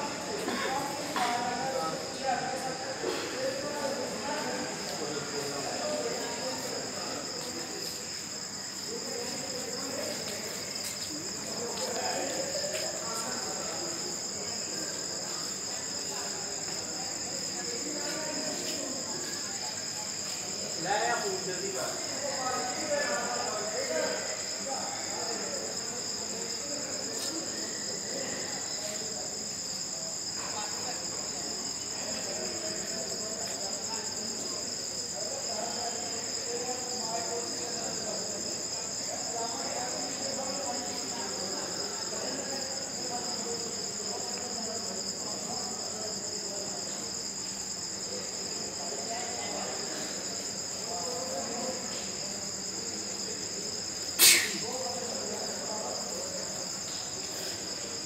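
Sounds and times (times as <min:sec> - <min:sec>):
crickets chirping: 0:00.0 - 0:58.0
faint background murmur: 0:00.0 - 0:58.0.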